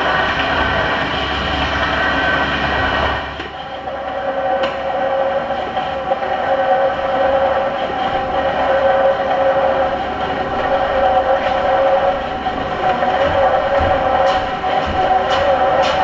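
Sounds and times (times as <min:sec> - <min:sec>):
treadmill motor and belt: 0:00.0 - 0:16.0
two-pitch hum: 0:00.0 - 0:16.0.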